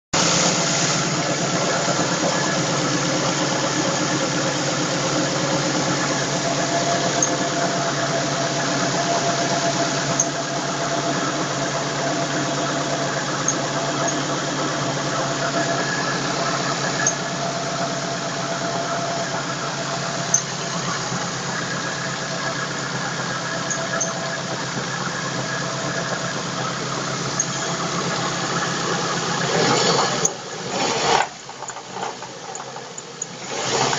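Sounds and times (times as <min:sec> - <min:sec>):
car engine running: 0:00.1 - 0:33.9
wavering engine squeal: 0:00.2 - 0:33.9.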